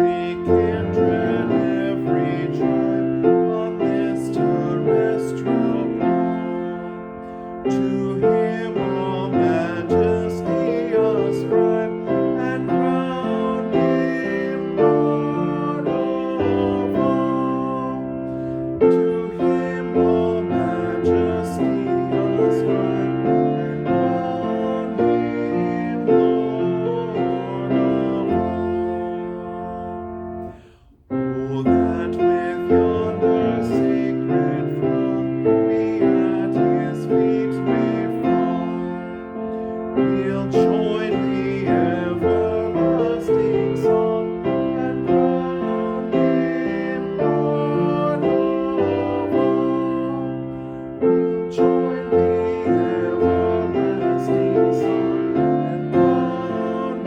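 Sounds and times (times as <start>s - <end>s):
piano playing hymn chords: 0.0s - 57.0s.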